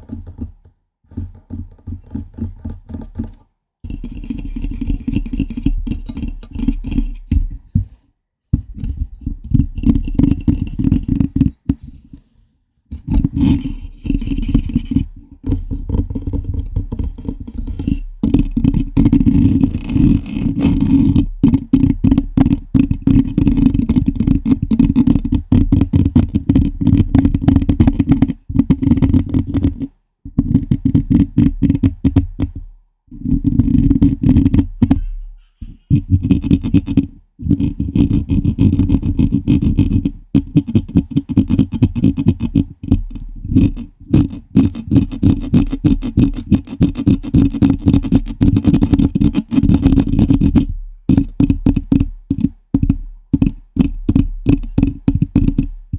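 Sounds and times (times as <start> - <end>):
fingers scratching on microphone: 0.0 - 12.3, 12.9 - 55.9.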